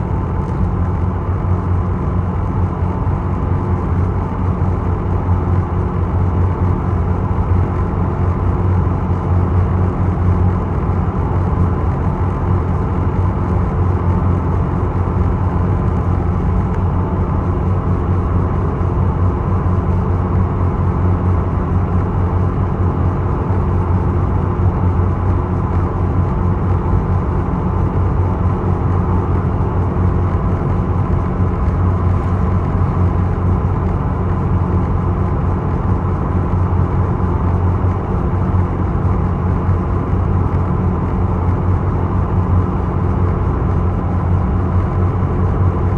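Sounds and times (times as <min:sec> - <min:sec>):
ferry diesel engine droning: 0:00.0 - 0:45.9.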